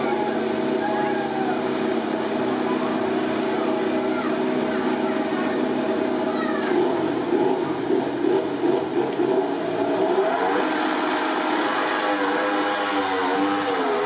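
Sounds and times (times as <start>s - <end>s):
motorcycle engine revving: 2.0s - 14.0s.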